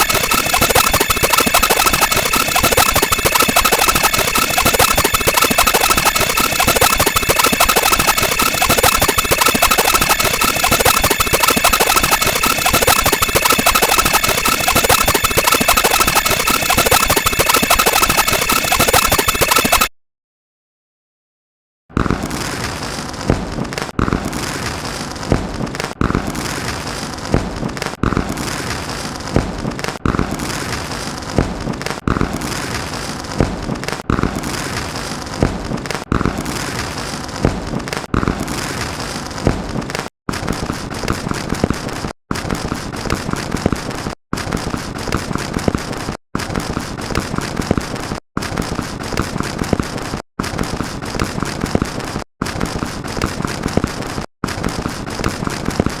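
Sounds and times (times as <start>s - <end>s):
dense crackling noise: 0.0s - 19.9s, 21.9s - 56.0s.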